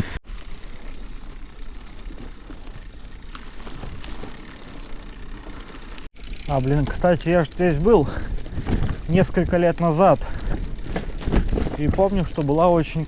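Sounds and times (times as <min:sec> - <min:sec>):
bike tyres rumbling on forest ground: 0:00.0 - 0:13.0.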